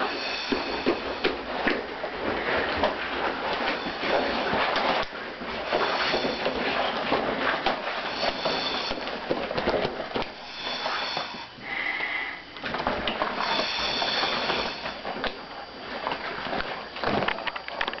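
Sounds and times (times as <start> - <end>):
rubber rustling and creaking: 0.0 - 11.5, 12.6 - 18.0.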